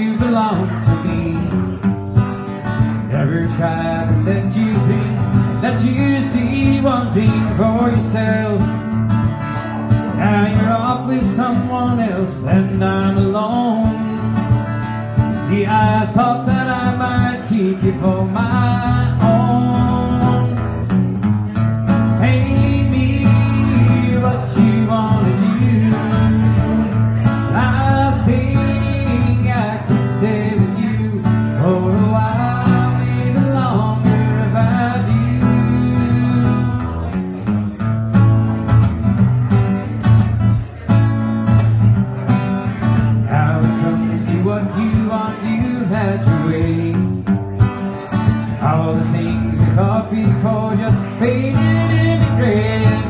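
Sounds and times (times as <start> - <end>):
man singing: 0.0 - 37.9, 42.6 - 53.0
acoustic guitar: 0.0 - 53.0.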